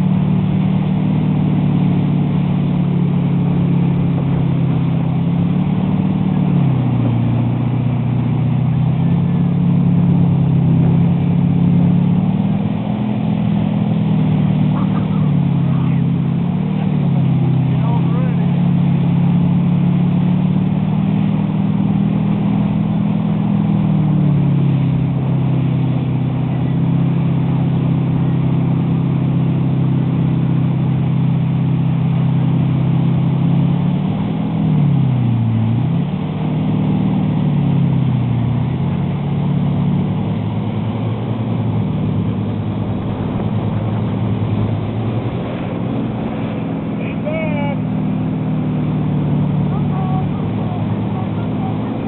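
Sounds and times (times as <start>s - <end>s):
motorboat engine running: 0.0s - 52.0s
rush of boat wake: 0.0s - 52.0s.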